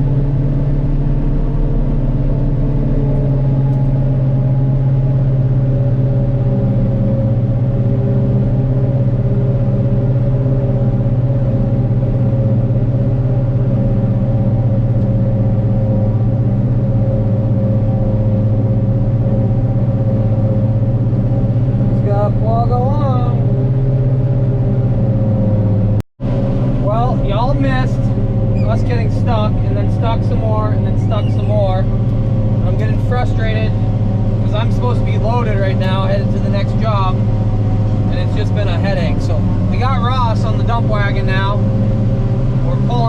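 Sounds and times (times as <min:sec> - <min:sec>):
heavy diesel engine droning: 0:00.0 - 0:43.0.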